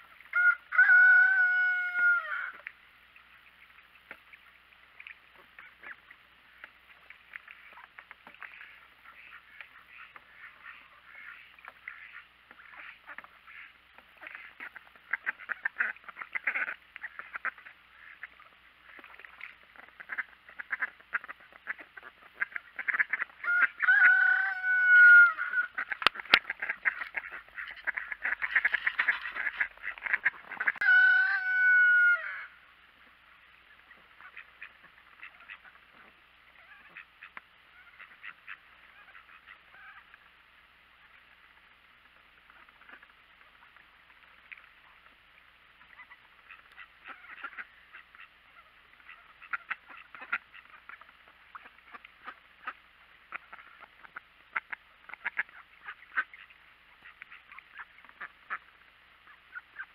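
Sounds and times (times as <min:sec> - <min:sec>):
ducks dabbling in water: 0:00.0 - 0:59.9.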